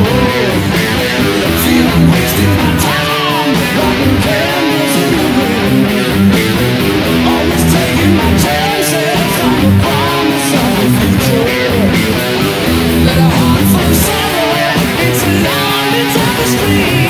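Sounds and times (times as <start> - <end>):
electric guitar lead: 0.0 - 17.0
rock bass and drums: 0.0 - 17.0.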